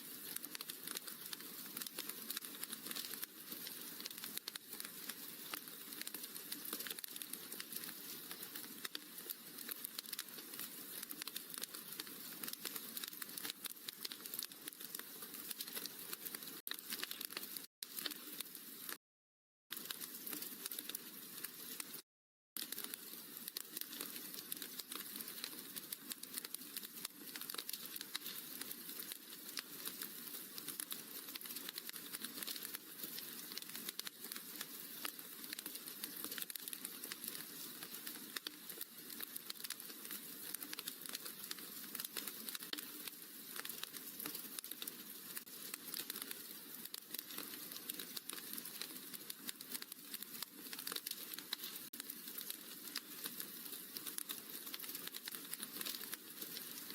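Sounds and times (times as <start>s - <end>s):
wood fire crackling: 0.0s - 19.0s, 19.7s - 22.0s, 22.6s - 56.9s.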